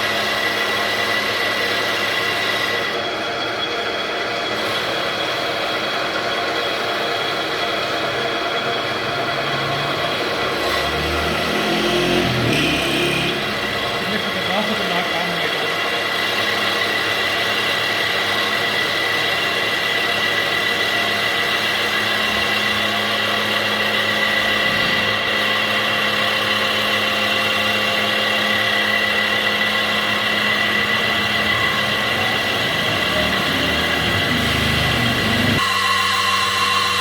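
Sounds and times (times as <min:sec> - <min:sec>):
wheel lathe whining and humming: 0:00.0 - 0:37.0.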